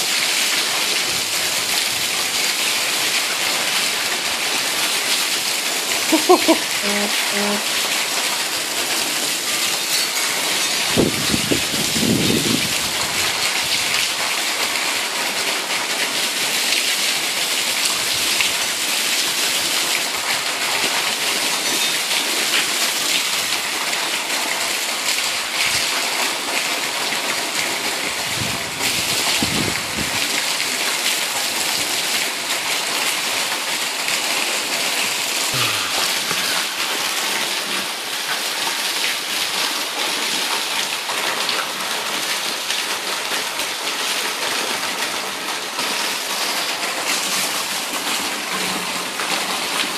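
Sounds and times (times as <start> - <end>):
heavy rain: 0.0 - 49.9
roof runoff pouring and splashing: 0.0 - 49.9.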